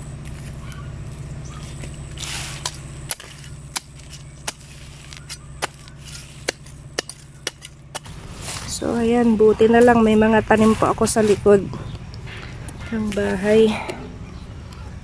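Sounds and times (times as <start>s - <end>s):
low steady hum: 0.0s - 15.0s
rustling and snapping plants: 0.2s - 14.0s.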